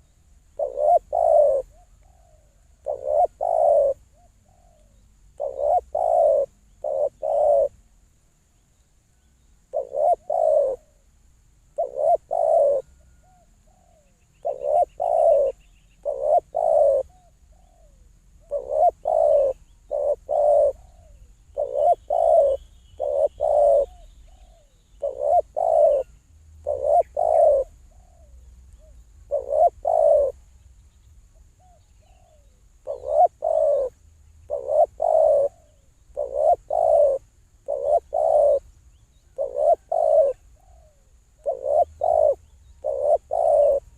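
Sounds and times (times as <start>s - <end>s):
faint high hiss: 0.0s - 43.9s
dove cooing: 0.6s - 7.8s, 9.7s - 11.0s, 11.8s - 30.4s, 31.4s - 38.7s, 39.3s - 43.9s.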